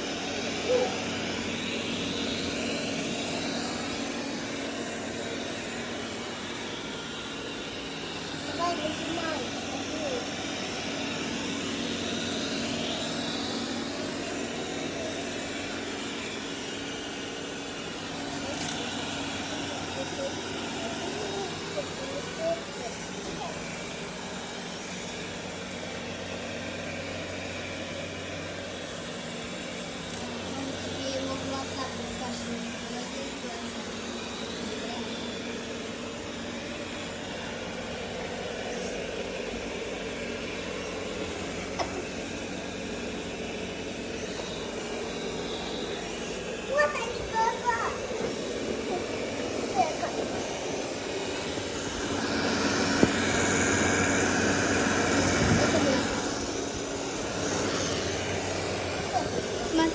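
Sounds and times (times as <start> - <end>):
low motor hum: 0.0 - 59.9
robot vacuum whirring: 0.0 - 59.9.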